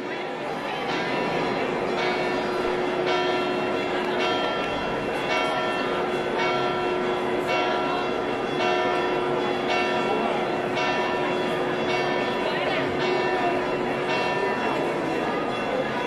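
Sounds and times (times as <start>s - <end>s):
church bells ringing: 0.4s - 16.0s.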